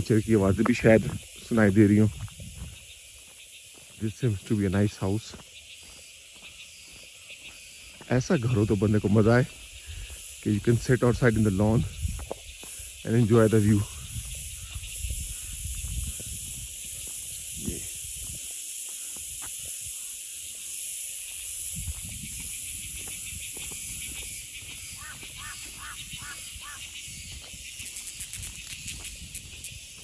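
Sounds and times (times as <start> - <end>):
insects shrilling: 0.0 - 30.0.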